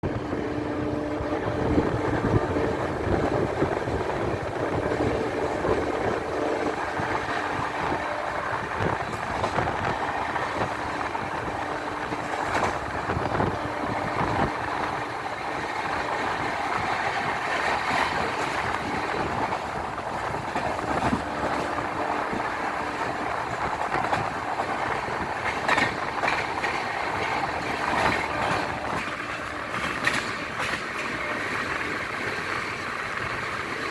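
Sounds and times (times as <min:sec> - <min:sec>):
train horn tones: 0:00.0 - 0:32.4
train wheels clattering: 0:00.0 - 0:33.9.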